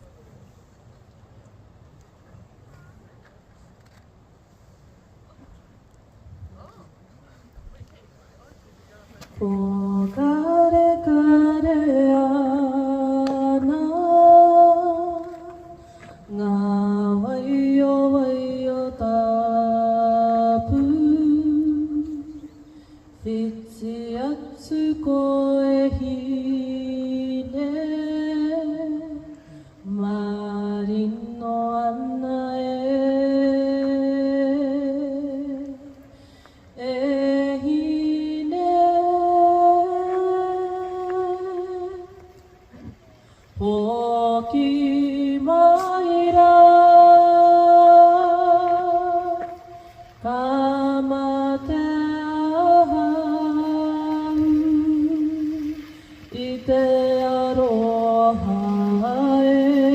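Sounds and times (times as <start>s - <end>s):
person singing slow melody: 9.3s - 59.9s.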